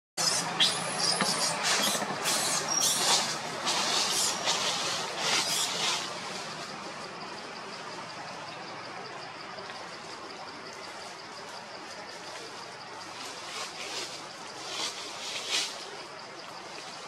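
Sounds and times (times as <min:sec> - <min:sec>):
leaves and branches rustling: 0:01.2 - 0:07.6, 0:09.7 - 0:17.0.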